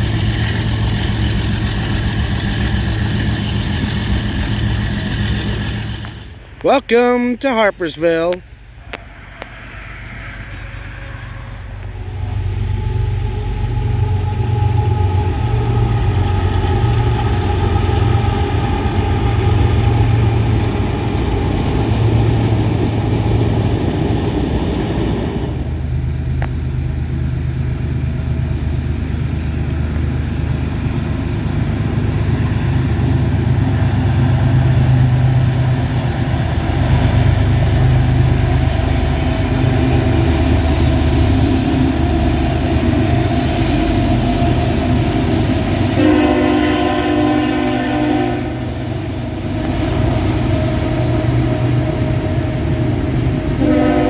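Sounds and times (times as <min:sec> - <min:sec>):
diesel freight train rumbling past: 0:00.0 - 0:54.0.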